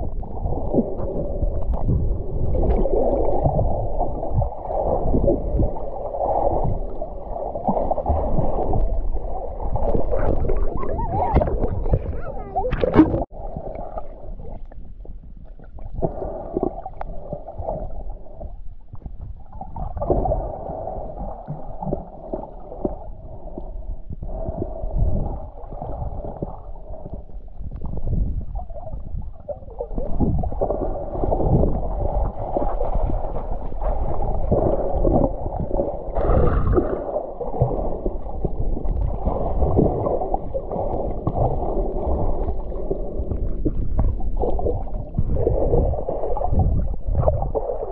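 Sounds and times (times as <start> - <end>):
muffled water gurgling and sloshing: 0.0 - 47.9.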